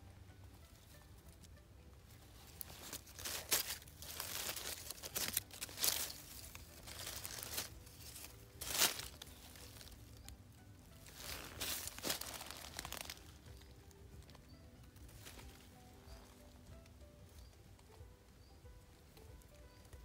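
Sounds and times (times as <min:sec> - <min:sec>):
dry leaves rustling and crunching: 0:00.8 - 0:18.0.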